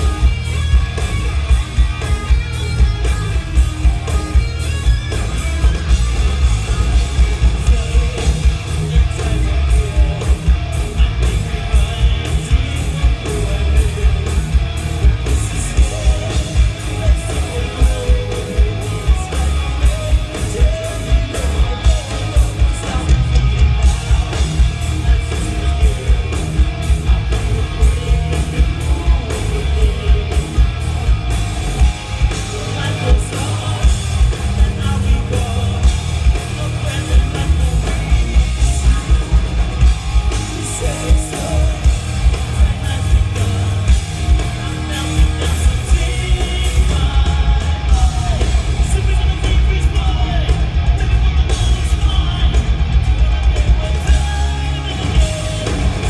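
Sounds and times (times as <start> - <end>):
hard rock band playing live: 0.0 - 56.0.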